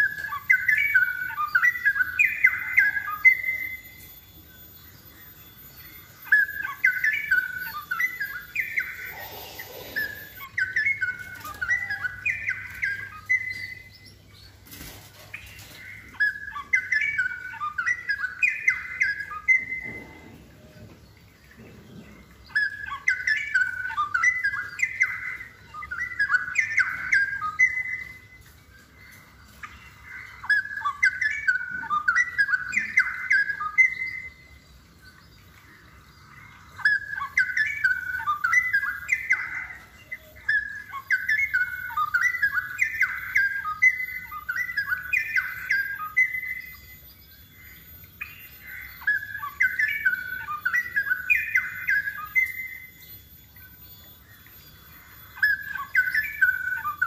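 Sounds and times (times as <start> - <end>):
bird singing rapid notes: 0.0 - 57.0.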